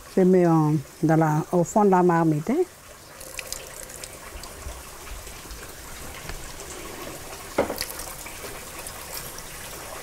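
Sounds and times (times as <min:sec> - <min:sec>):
liquid trickling and dripping: 0:00.0 - 0:10.0.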